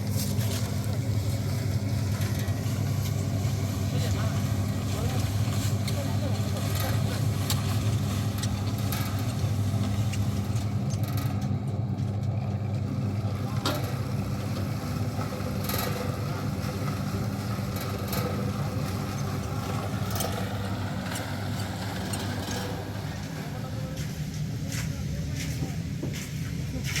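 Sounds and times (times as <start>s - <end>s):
motor running with low hum: 0.0s - 27.0s.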